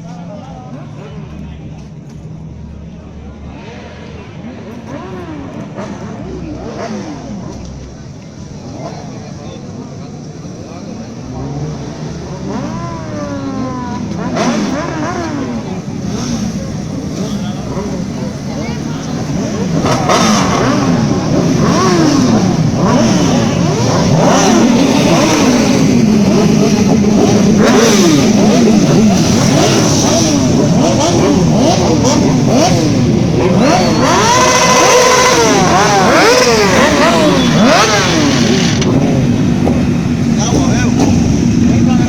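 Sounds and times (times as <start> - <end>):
racing motorcycle engines revving: 0.0 - 42.0.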